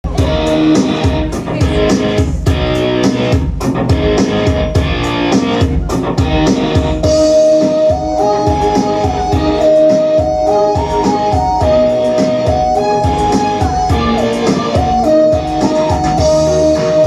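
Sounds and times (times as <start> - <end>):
drum kit beat: 0.0 - 17.0
guitar: 0.0 - 17.0
held melody line: 0.0 - 17.0.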